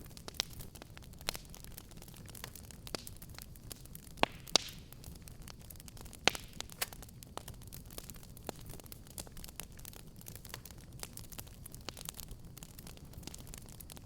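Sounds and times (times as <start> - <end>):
low rumble of burning: 0.0 - 14.0
wood fire crackling and popping: 0.0 - 14.0.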